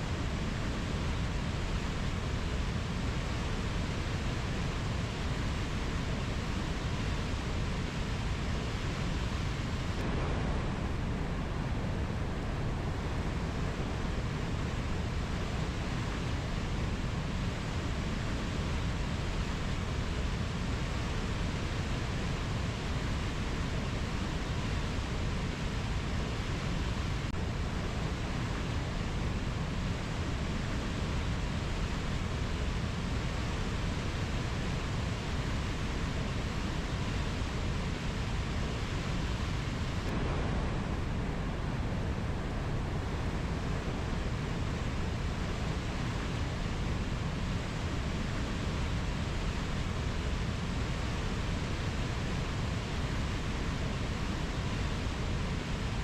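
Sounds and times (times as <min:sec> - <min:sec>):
rushing rainforest ambience: 0:00.0 - 0:56.0.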